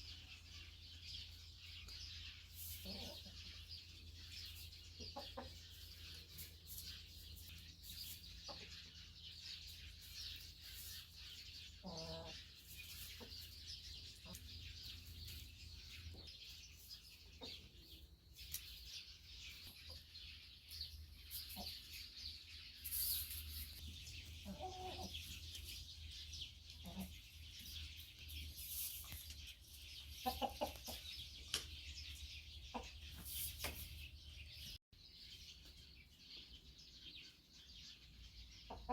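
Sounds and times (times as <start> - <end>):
chickens clucking: 0.0 - 34.6, 37.9 - 38.9.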